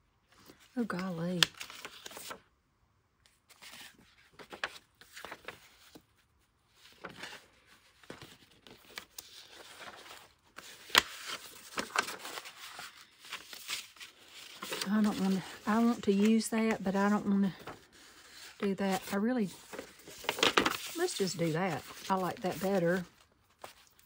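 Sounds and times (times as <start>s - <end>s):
paper rustling and sliding: 3.3s - 24.0s.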